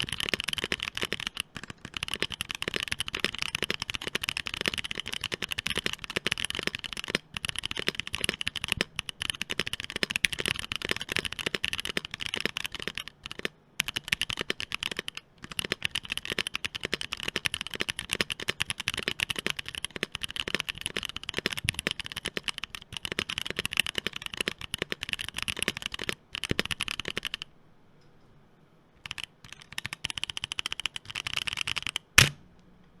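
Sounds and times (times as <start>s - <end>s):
mechanical keyboard typing: 0.0s - 27.5s, 29.0s - 32.4s.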